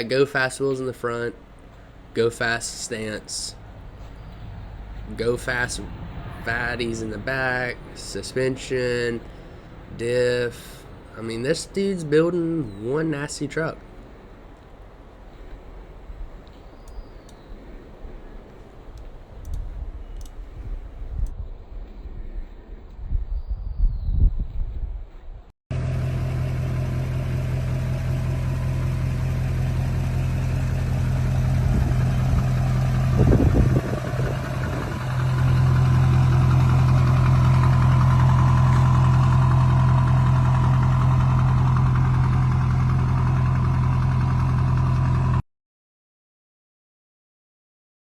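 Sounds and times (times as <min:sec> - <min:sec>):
truck engine idling: 0:00.0 - 0:20.4, 0:25.7 - 0:45.4.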